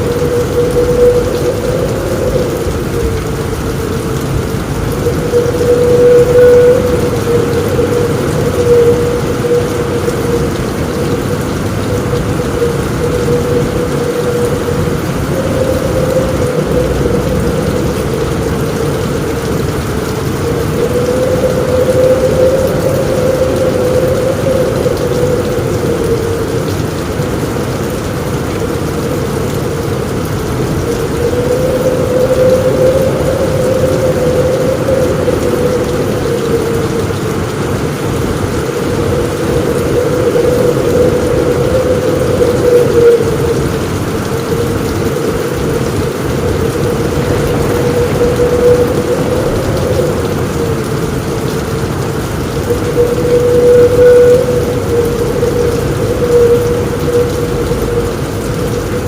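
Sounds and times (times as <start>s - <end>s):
deep rumble: 0.0s - 59.0s
heavy rain drumming on a roof: 0.0s - 59.0s.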